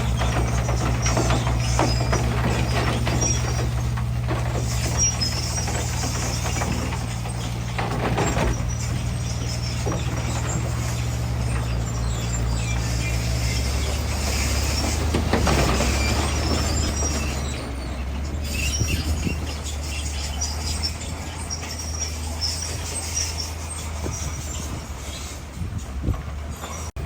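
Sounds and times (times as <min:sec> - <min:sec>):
bulldozer diesel engine: 0:00.0 - 0:27.0
steel tracks squealing: 0:00.0 - 0:27.0.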